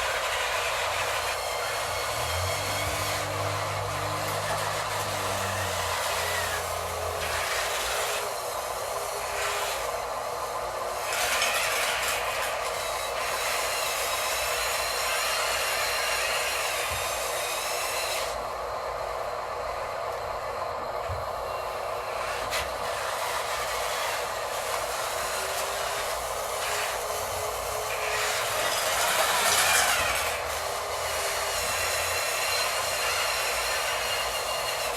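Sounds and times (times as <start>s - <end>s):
small electric motors whirring: 0.0s - 34.9s.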